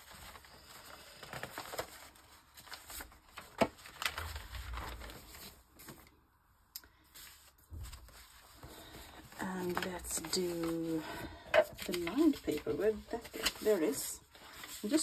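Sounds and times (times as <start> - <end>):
paper rustling and sliding: 0.0 - 6.2, 7.0 - 15.0.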